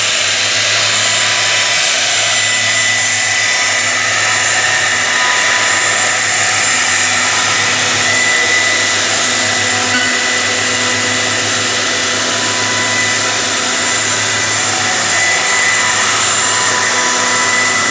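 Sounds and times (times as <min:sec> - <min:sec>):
bit cutting wood: 0:00.0 - 0:17.9
router spindle whine: 0:00.0 - 0:17.9.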